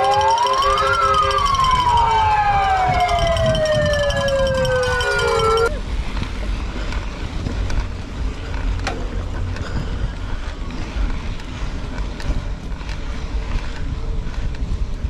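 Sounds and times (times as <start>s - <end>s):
bike clicking and knocking: 0.0s - 15.0s
bike tyre noise: 0.0s - 15.0s
wind buffeting microphone: 0.0s - 15.0s.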